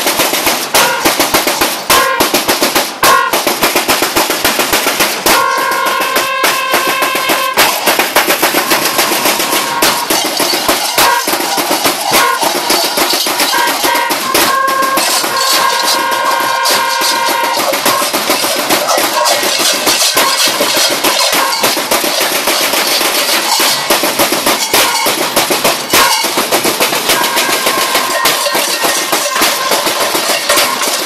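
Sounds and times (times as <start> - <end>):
large cowbells clanging: 0.0 - 31.0
stomping: 0.0 - 31.0.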